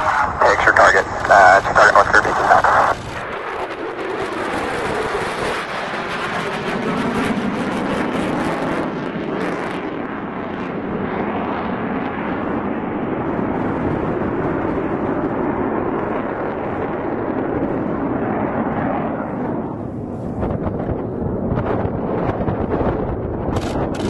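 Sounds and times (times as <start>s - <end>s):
jet passing overhead: 0.0s - 24.0s.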